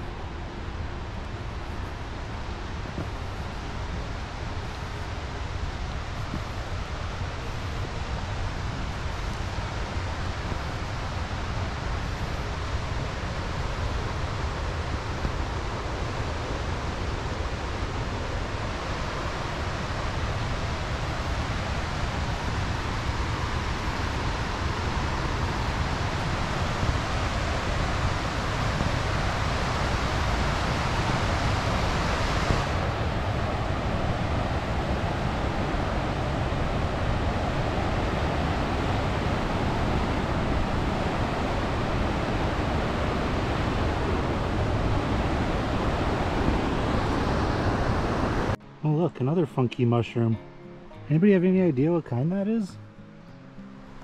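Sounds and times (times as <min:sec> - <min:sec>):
waterfall roaring: 0:00.0 - 0:48.6.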